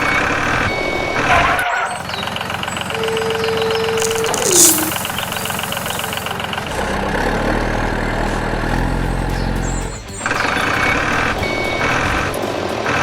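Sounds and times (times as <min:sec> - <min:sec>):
rough mechanical noise: 0:00.0 - 0:13.0
vehicle engine humming: 0:00.0 - 0:13.0.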